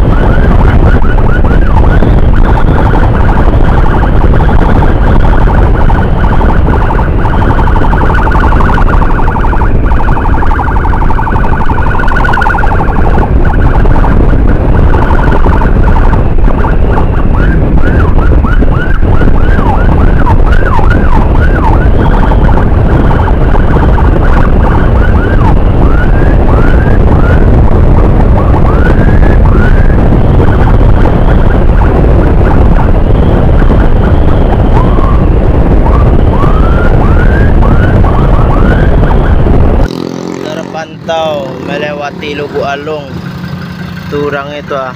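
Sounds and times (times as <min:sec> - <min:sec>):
electronic siren warbling: 0:00.0 - 0:44.9
motorcycle engine and wind rumble: 0:00.0 - 0:44.9.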